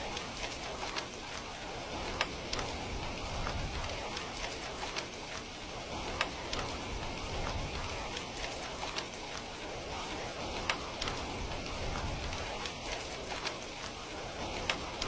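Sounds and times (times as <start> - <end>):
heavy rain falling: 0.0 - 15.0
sharp raindrop taps: 0.0 - 15.0.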